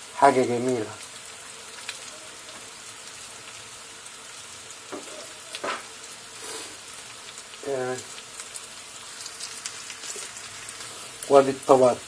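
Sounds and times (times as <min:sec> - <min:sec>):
food frying in hot oil: 0:00.0 - 0:12.0
loud oil crackles: 0:01.1 - 0:12.0.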